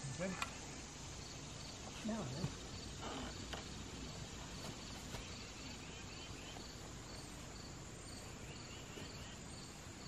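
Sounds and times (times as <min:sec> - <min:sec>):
insects chirping: 0:00.0 - 0:10.0
steady outdoor hiss: 0:00.0 - 0:10.0.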